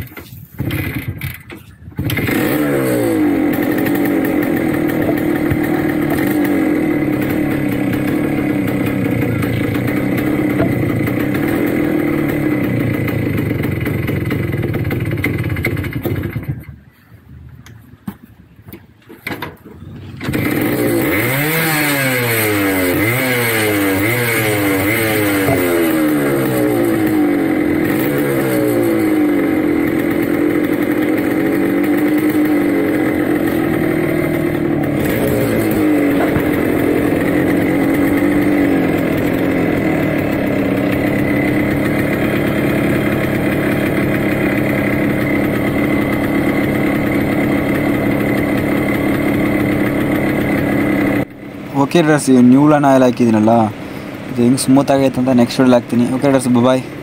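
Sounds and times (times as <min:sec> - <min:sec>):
two-stroke engine revving: 0:00.6 - 0:16.7, 0:20.1 - 0:57.0.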